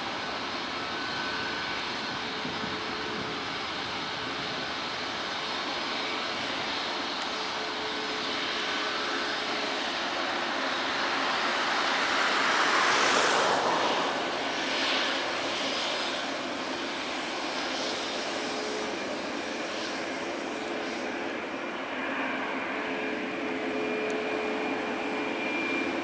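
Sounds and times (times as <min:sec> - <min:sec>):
jet engines hiss and whine: 0:00.0 - 0:26.0.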